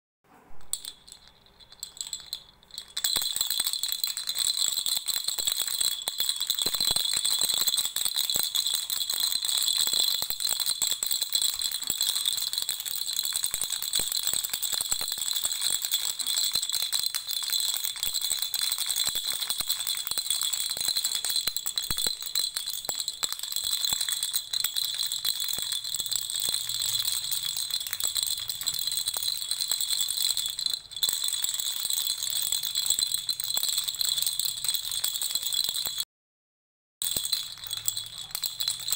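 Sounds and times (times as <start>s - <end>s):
baby rattle shaking: 0.7s - 36.0s, 37.0s - 38.9s.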